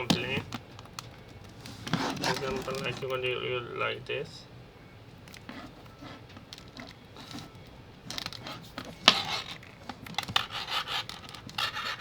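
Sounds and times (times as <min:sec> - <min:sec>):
cable rustling and clicking: 0:00.0 - 0:03.3, 0:05.1 - 0:12.0.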